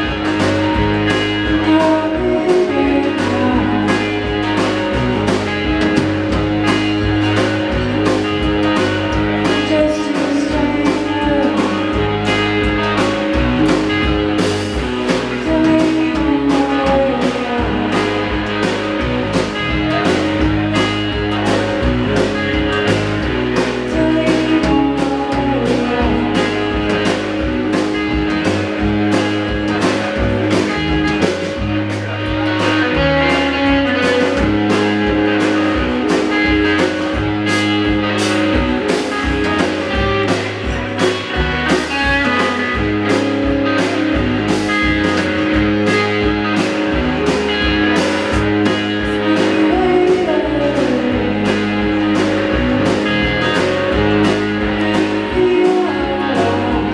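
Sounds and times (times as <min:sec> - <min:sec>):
electric guitar: 0:00.0 - 0:56.9
steady drum beat: 0:00.0 - 0:56.9.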